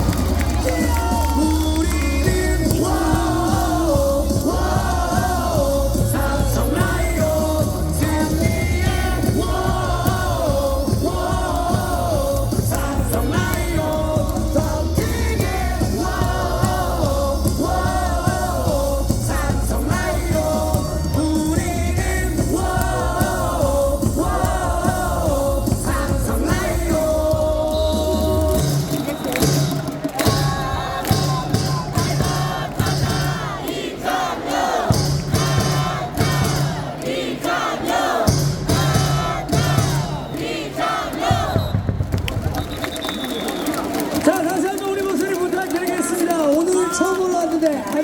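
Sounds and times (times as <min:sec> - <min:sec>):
cheer song over loudspeakers: 0:00.0 - 0:48.0.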